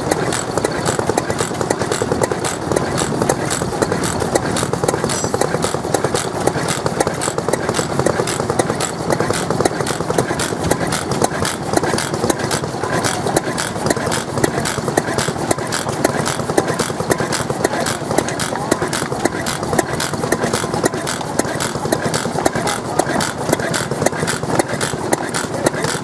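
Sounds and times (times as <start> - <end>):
stationary engine clattering: 0.0 - 26.0.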